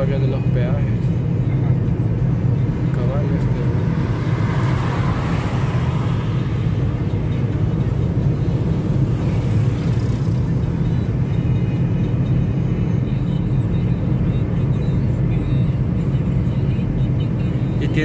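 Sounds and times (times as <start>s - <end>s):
vehicle road noise rumble: 0.0s - 18.0s.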